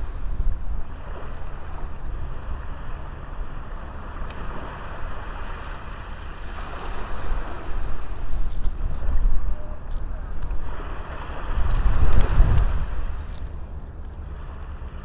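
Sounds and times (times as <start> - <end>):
small waves washing on beach: 0.0 - 15.0
wind buffeting microphone: 0.0 - 15.0.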